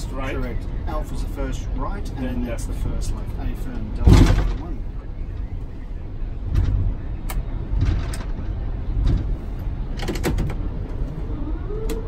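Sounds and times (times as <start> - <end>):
low rumble inside cockpit: 0.0 - 12.0.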